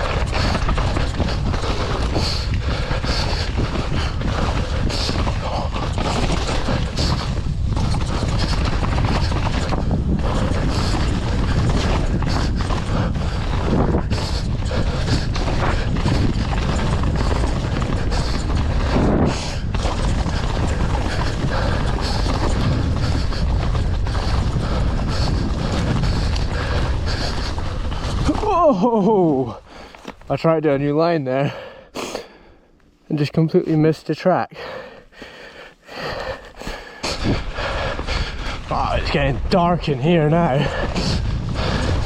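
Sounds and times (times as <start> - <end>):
wind on microphone: 0.0 - 29.7, 36.0 - 42.0
mountain bike clattering: 0.0 - 31.6, 35.9 - 42.0.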